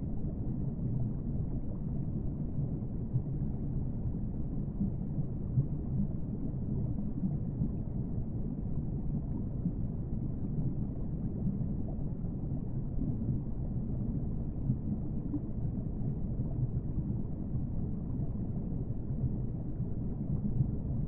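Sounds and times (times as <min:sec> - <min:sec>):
low rumbling ambience: 0:00.0 - 0:21.0.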